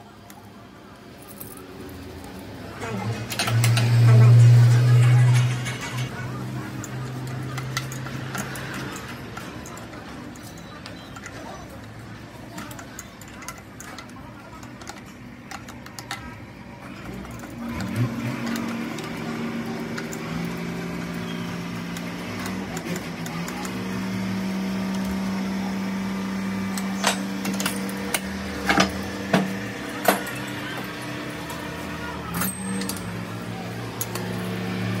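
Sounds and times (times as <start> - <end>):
metal tools clinking: 1.2 - 25.4, 26.0 - 35.0.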